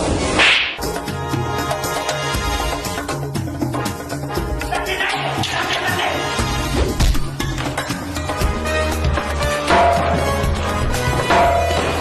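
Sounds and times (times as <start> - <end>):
instrumental film song music: 0.7 - 12.0.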